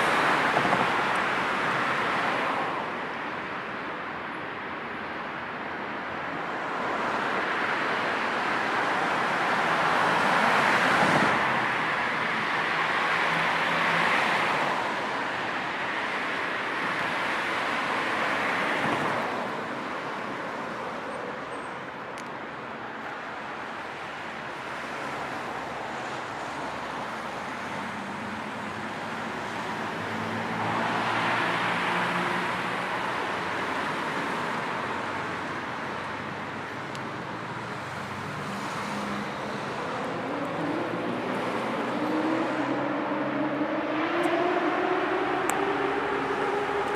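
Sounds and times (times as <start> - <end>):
road traffic: 0.0 - 46.9
vehicles passing by: 0.0 - 46.9.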